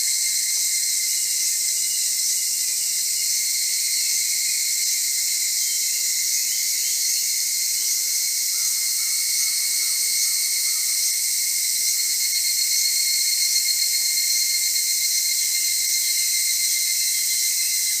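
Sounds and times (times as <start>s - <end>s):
cicadas calling: 0.0s - 18.0s.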